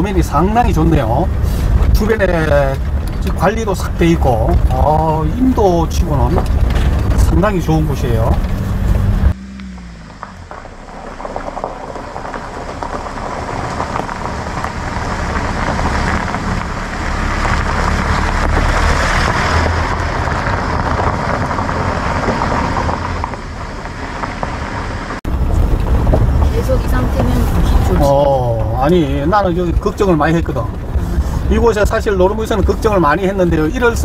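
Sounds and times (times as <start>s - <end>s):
low truck engine rumble: 0.0s - 34.0s
tyres crunching over gravel: 0.0s - 34.0s.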